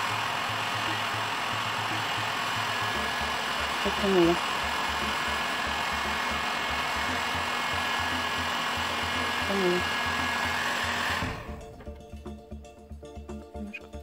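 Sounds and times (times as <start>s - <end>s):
heat gun blowing hot air: 0.0s - 11.7s.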